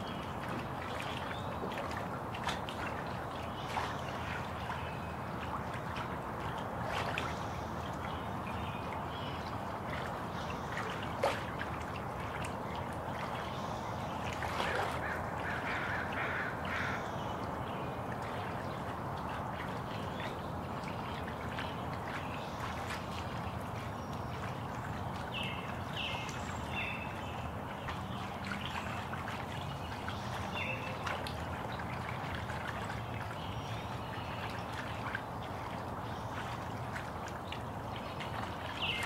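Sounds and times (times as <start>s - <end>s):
trickle of running water: 0.0s - 39.0s.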